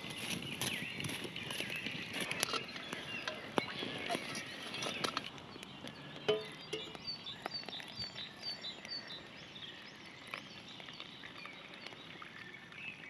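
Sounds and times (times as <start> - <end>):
campfire crackles: 0.0 - 13.0.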